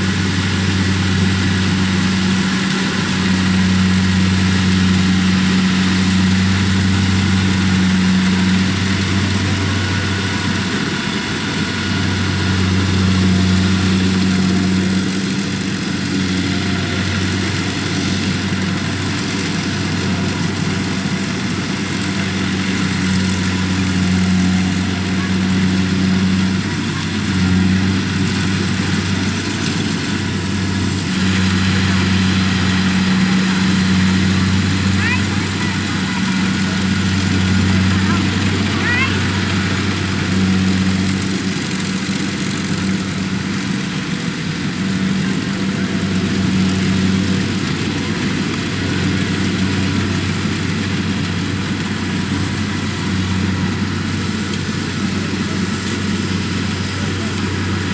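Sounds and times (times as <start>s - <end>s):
combine harvester engine running: 0.0s - 57.9s.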